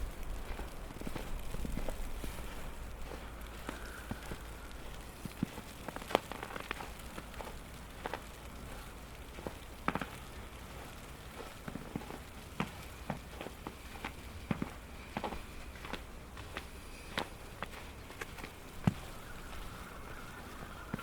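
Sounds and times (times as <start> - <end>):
footsteps crunching in snow: 0.0 - 21.0.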